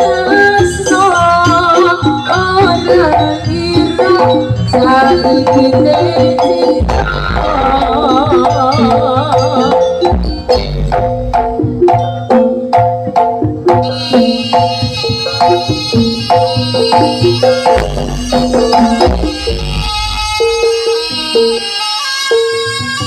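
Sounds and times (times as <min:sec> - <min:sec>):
hand drum beats: 0:00.0 - 0:21.7
sustained higher melody: 0:00.0 - 0:22.9
gamelan mallet instruments: 0:00.0 - 0:23.0.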